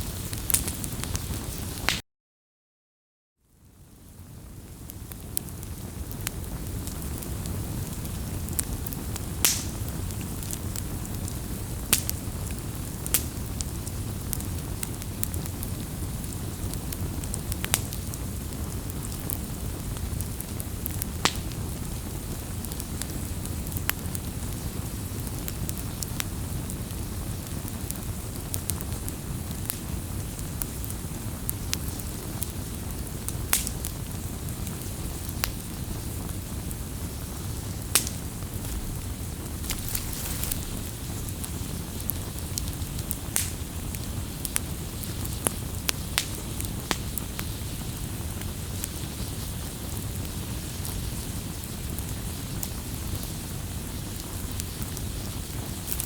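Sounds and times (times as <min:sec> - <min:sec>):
burning wood crackling and popping: 0:00.0 - 0:02.0, 0:04.0 - 0:56.0
low rumble of flame: 0:00.0 - 0:02.0, 0:03.5 - 0:56.0.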